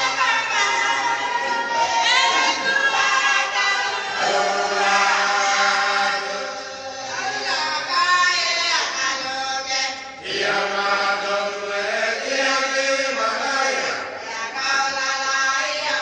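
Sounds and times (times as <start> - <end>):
group singing unaccompanied: 0.0 - 16.0.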